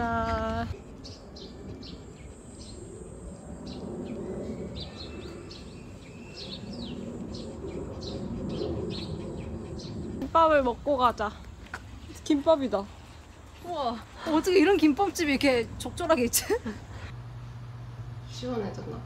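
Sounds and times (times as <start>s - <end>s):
small birds chirping: 0.0s - 17.1s
low outdoor hum: 0.0s - 19.0s.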